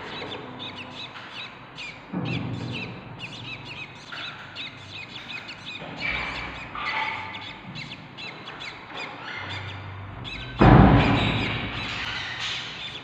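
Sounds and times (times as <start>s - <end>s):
budgerigars chirping: 0.0s - 13.0s
scratchy bird calls: 0.0s - 13.0s.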